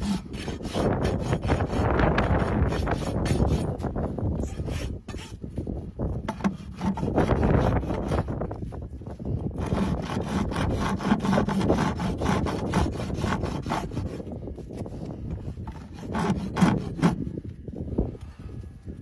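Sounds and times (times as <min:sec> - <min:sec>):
rasp scraping hoof: 0:00.0 - 0:17.4.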